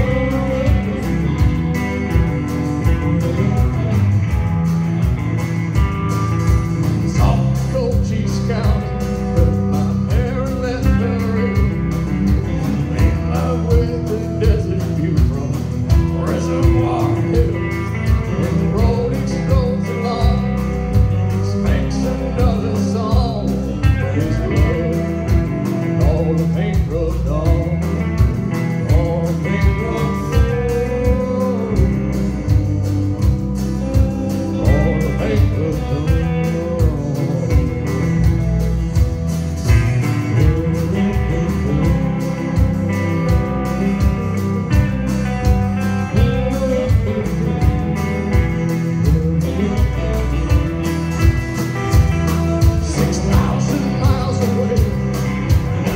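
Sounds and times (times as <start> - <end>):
person singing: 0.0 - 4.4, 6.8 - 55.9
electric and acoustic guitars: 0.0 - 55.9
steady drum beat: 0.0 - 55.9.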